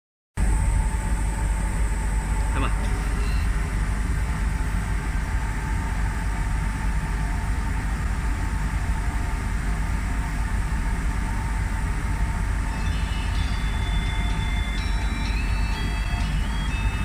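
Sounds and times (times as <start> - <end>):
faint even hum: 0.4 - 17.0
machinery rumbling: 0.4 - 17.0.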